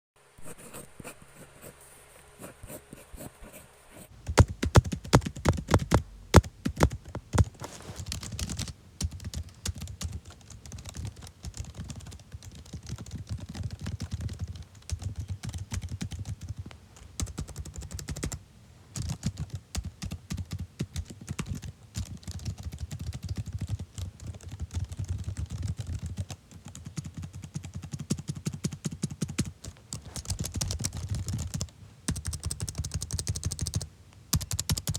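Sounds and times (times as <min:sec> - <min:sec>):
computer keyboard typing: 0:04.1 - 0:18.4, 0:19.0 - 0:34.9.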